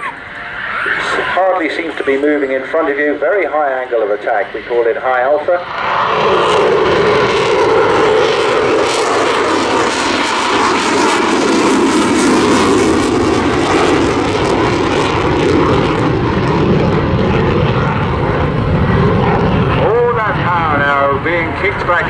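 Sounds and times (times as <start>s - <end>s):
jet engines roaring: 0.0s - 22.0s
deep jet rumble: 0.6s - 22.0s.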